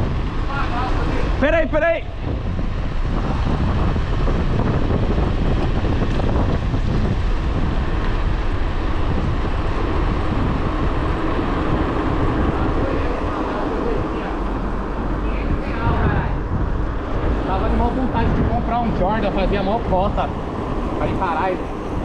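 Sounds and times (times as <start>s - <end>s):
road rumble: 0.0s - 22.0s
wind rush on microphone: 0.0s - 22.0s.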